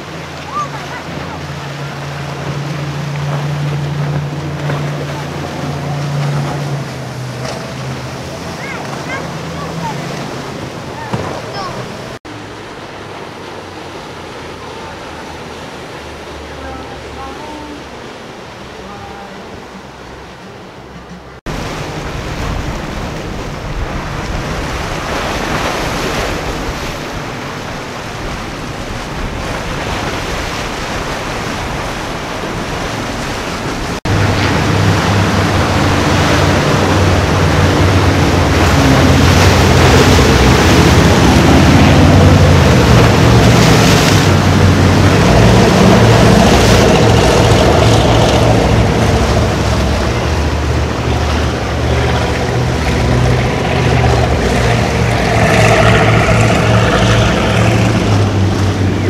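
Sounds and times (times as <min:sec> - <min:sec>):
choppy waves: 0:00.0 - 0:59.0
powerboat engines running: 0:00.0 - 0:59.0
water washing: 0:00.0 - 0:59.0.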